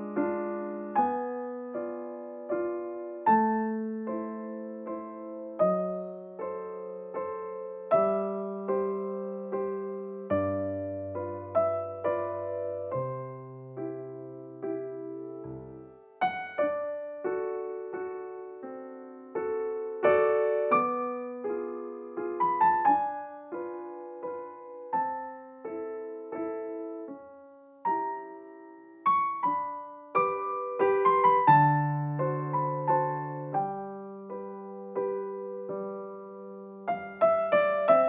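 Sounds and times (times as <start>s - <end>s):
gentle piano music: 0.0s - 38.0s.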